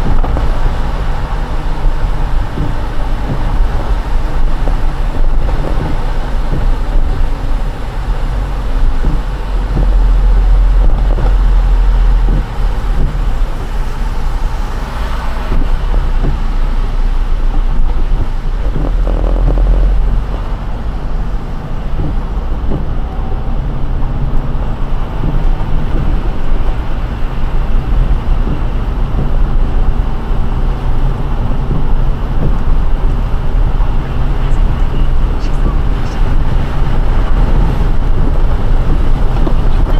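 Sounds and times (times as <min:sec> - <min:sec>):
road rumble: 0:00.0 - 0:39.9
tyres hissing on wet road: 0:00.0 - 0:39.9.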